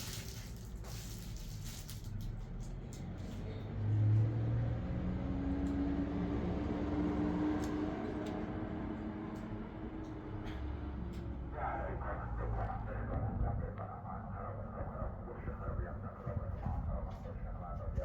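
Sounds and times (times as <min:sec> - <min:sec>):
vehicle engine humming: 0:01.5 - 0:18.0.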